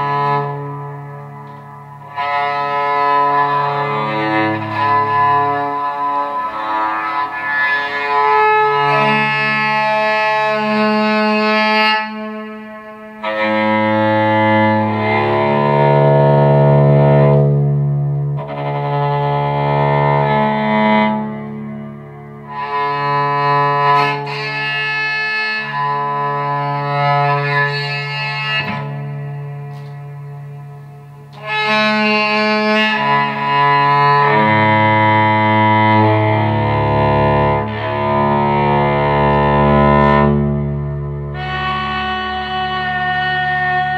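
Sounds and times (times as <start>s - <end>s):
electric cello bowed: 0.0s - 43.9s.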